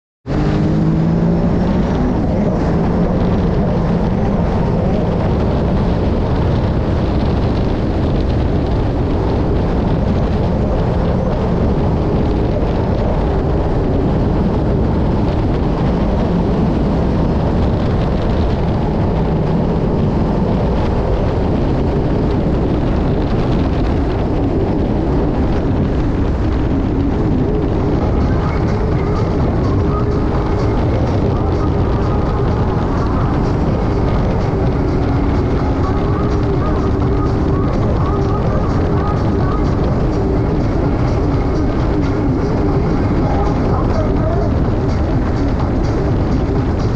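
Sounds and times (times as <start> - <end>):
wind noise on microphone: 0.2 - 46.9
jet ski engine drone: 0.3 - 46.9
rush of spray and wake: 0.3 - 46.9.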